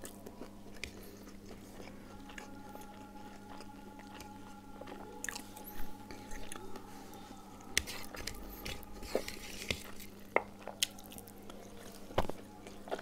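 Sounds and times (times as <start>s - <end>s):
chewing: 0.0s - 13.0s
fingers mixing food on plate: 0.0s - 13.0s.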